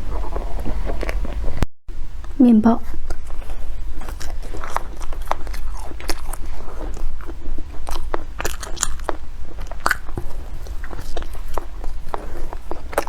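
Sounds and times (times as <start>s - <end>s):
person chewing bread: 0.0s - 1.6s, 2.2s - 13.0s
steady low hum: 0.0s - 13.0s.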